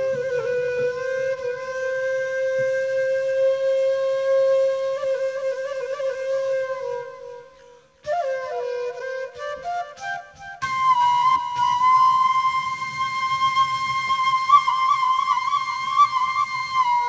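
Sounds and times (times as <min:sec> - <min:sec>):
solo wind instrument: 0:00.0 - 0:17.0.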